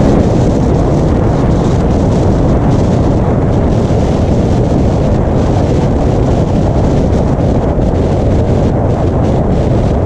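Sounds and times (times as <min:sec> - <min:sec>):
truck engine rumble: 0:00.0 - 0:10.0
wind buffeting microphone: 0:00.0 - 0:10.0.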